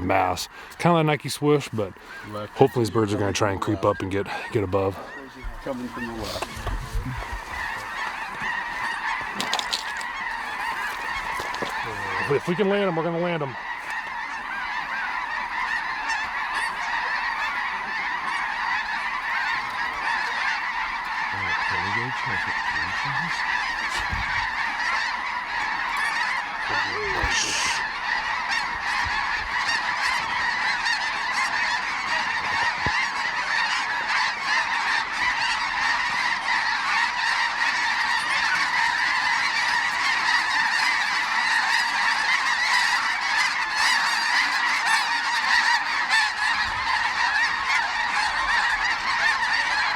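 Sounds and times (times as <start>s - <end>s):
geese honking: 0.0s - 49.9s.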